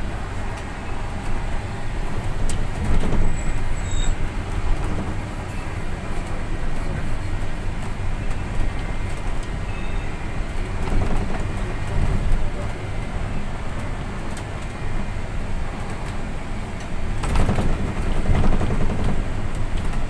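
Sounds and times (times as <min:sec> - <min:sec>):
bus engine hum: 0:00.0 - 0:20.0
road noise: 0:00.0 - 0:20.0.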